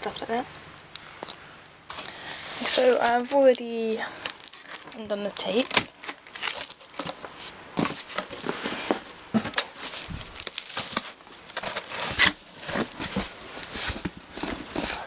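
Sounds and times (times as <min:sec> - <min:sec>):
packing rustling and crinkling: 0:01.9 - 0:15.0.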